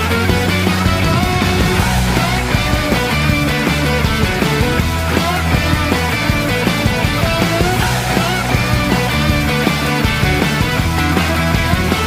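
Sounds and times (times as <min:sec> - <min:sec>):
rock music with distorted guitars: 0:00.0 - 0:12.0.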